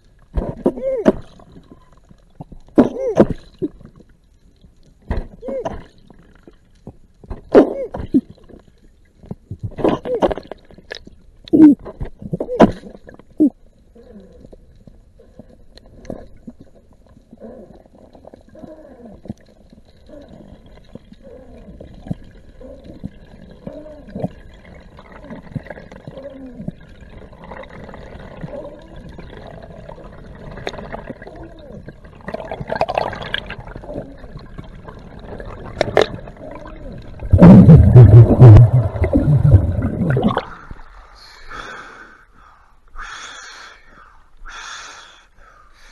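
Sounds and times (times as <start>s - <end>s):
underwater gurgles: 0.0s - 41.8s.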